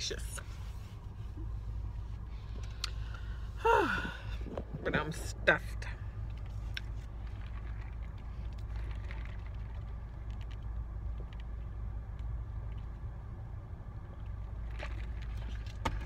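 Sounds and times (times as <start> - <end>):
car low rumble: 0.0 - 16.0.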